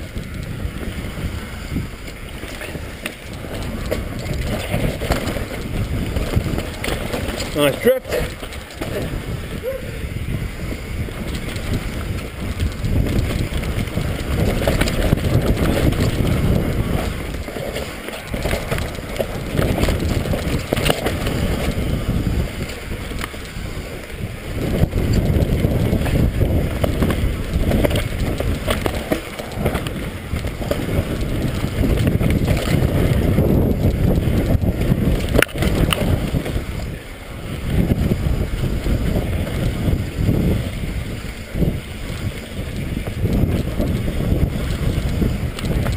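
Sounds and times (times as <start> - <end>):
bike knocks and rattles: 0.0 - 45.9
rumble of bike tyres on dirt: 0.0 - 45.9
wind buffeting microphone: 0.0 - 45.9.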